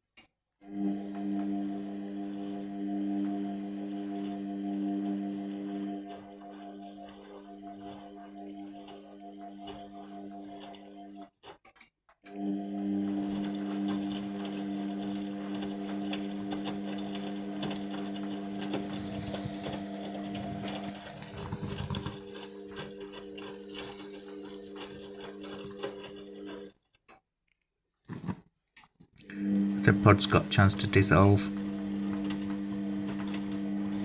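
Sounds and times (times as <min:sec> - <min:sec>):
washing machine motor hum: 0:00.7 - 0:11.2, 0:12.4 - 0:26.7, 0:29.2 - 0:34.0.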